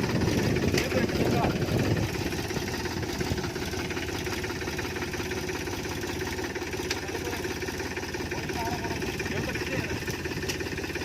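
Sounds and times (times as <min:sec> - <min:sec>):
farm vehicle engine idling: 0:00.0 - 0:11.0.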